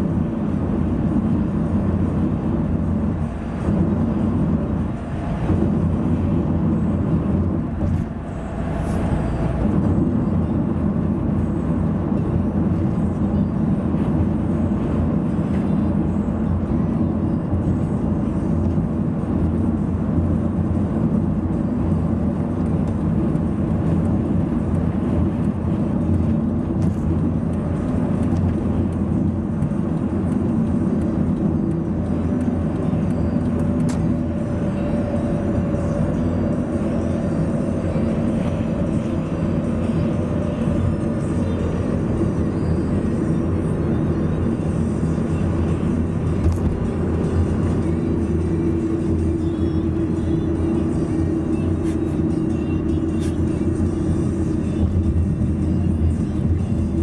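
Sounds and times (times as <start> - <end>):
car road noise inside cabin: 0.0 - 57.0.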